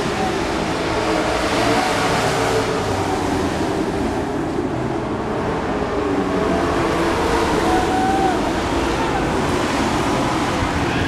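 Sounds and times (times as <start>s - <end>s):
racing truck engines running hard: 0.0s - 11.0s.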